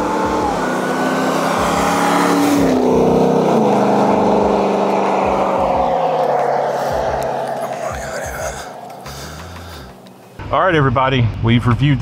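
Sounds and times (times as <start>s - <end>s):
engine running loudly: 0.0s - 10.2s.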